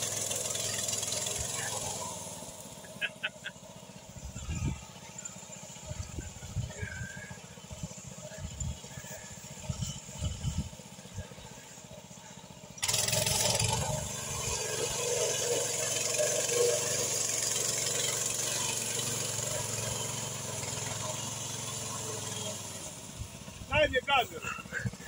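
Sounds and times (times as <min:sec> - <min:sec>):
small tractor engine running: 0:00.0 - 0:25.0.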